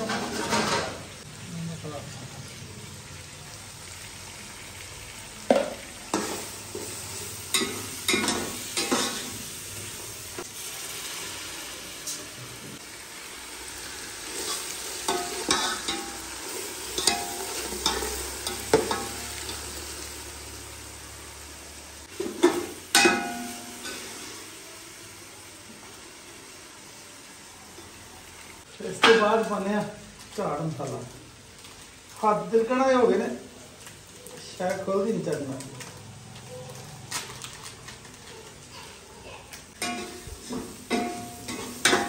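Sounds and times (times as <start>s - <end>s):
oil sizzling: 0.0s - 42.0s.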